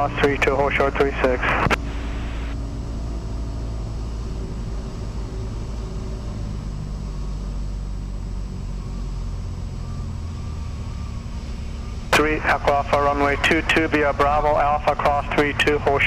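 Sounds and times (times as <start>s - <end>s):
airplane engine low drone: 0.0s - 16.0s.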